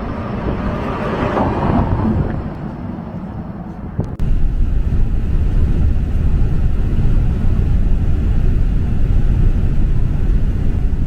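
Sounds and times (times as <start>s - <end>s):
vehicle rumbling: 0.0s - 11.0s.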